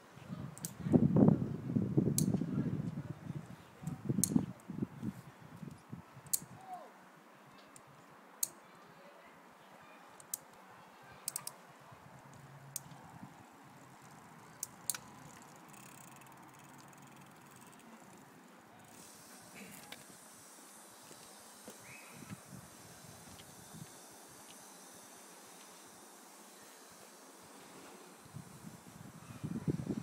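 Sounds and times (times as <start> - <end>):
background hiss: 3.4 - 30.0.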